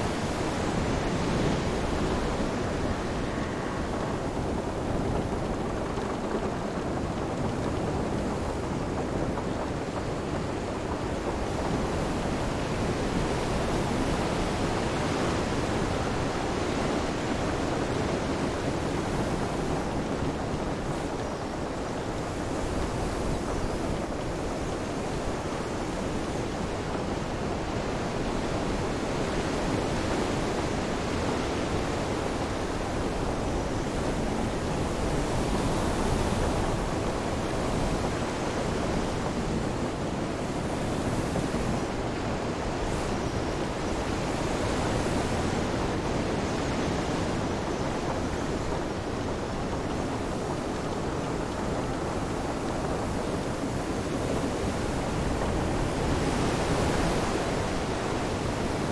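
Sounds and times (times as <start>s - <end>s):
rain: 0.0s - 58.9s
waves: 0.0s - 58.9s
wind: 0.0s - 58.9s.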